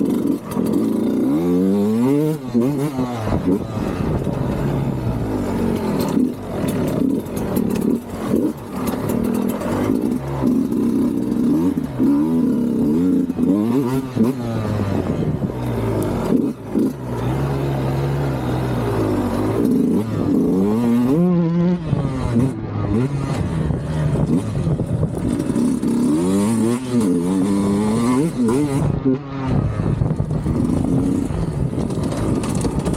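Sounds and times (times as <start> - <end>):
two-stroke motorcycle engine revving: 0.0 - 32.9.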